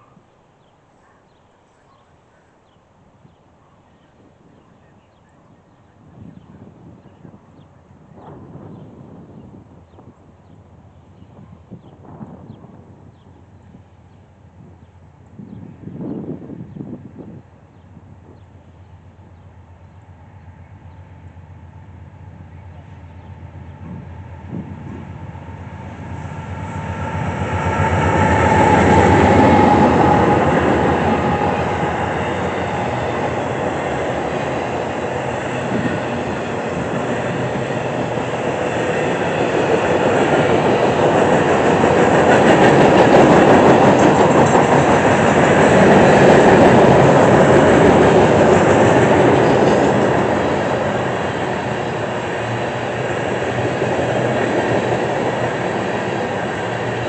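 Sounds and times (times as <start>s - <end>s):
diesel locomotive engines: 4.1s - 57.0s.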